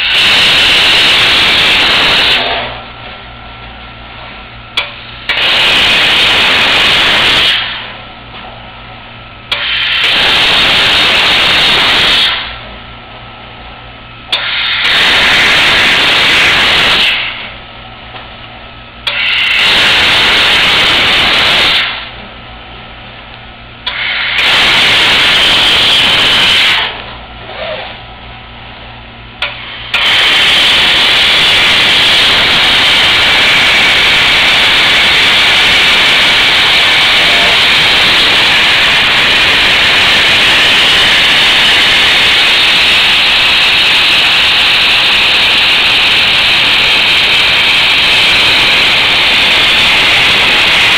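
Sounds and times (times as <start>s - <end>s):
laser cutter hissing: 0.0s - 2.8s, 4.8s - 8.0s, 9.5s - 12.7s, 14.3s - 17.6s, 19.0s - 22.2s, 23.8s - 28.0s, 29.4s - 50.9s
low machine hum: 0.9s - 43.2s.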